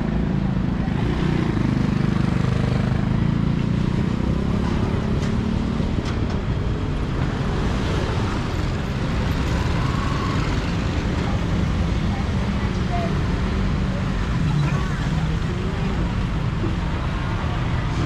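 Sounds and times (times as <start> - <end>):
car and motorbike engines rumbling: 0.0 - 18.0.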